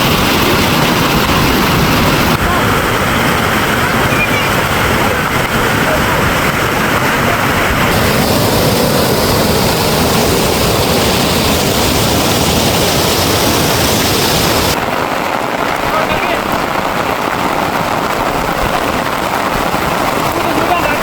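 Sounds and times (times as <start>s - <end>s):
loud rushing water: 0.0s - 21.0s.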